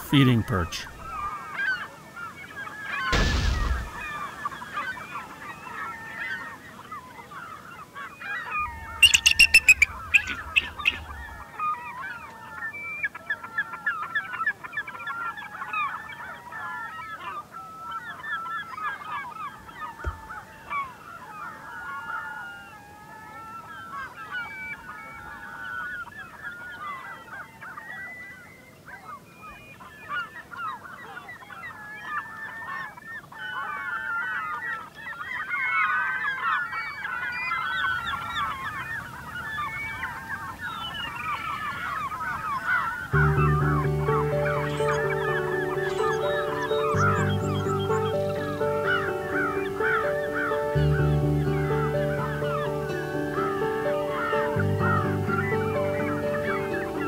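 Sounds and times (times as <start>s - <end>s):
flock of birds calling: 0.0s - 57.0s.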